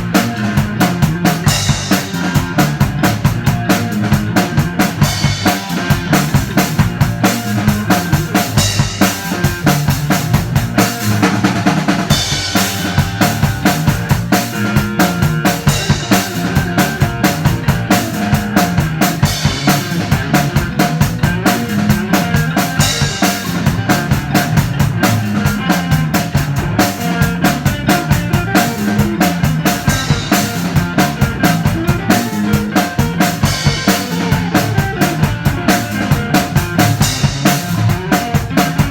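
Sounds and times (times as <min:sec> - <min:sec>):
bass line: 0:00.0 - 0:38.9
drum kit steady beat: 0:00.0 - 0:38.9
guitars: 0:00.0 - 0:38.9.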